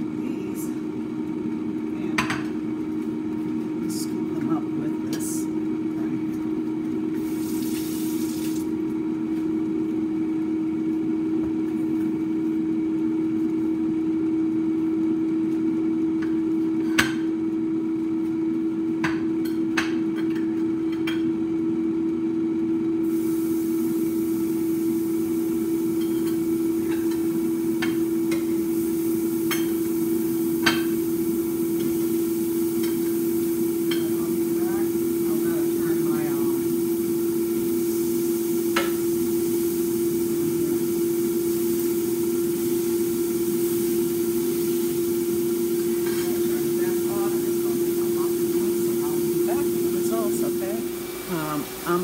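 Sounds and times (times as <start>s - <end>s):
air fryer fan humming: 0.0s - 52.0s.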